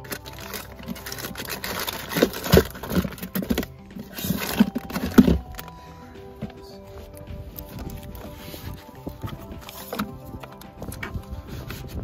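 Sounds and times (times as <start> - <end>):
background music: 0.0 - 12.0
jars and containers clattering: 0.0 - 12.0.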